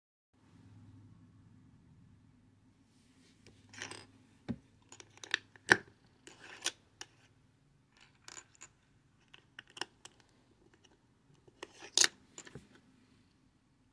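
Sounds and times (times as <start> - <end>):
faint low hum: 0.4 - 13.9.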